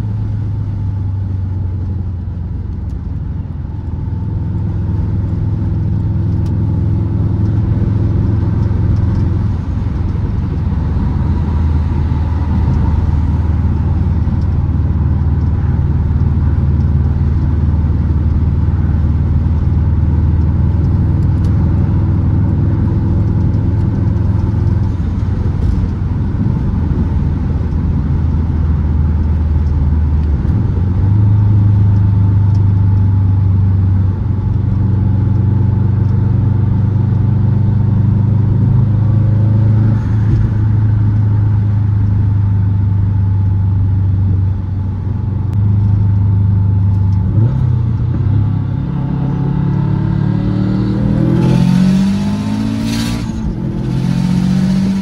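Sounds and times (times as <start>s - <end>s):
turbocharged car engine droning: 0.0s - 55.0s.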